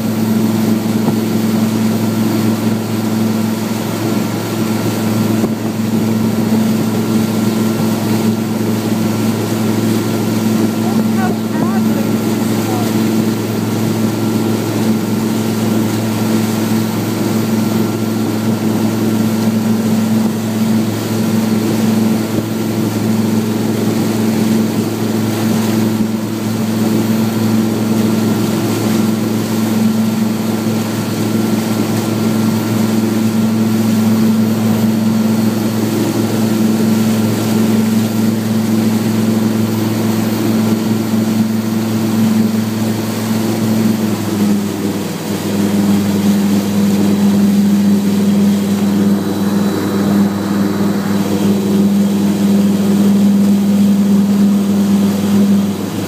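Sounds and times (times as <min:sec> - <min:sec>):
boat engine droning: 0:00.0 - 0:56.0
wind: 0:00.0 - 0:56.0.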